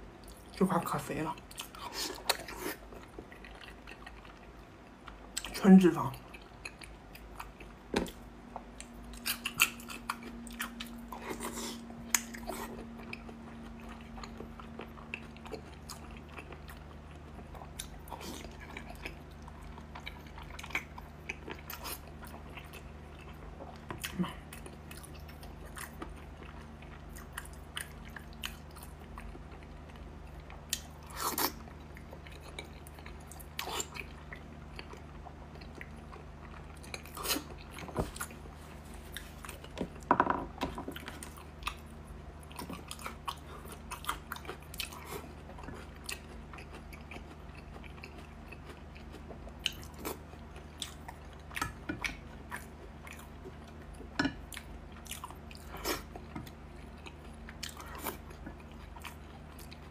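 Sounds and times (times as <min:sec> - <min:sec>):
faint low hum: 0:00.0 - 0:59.9
close chewing with wet smacks: 0:00.2 - 0:40.1, 0:40.8 - 0:59.9.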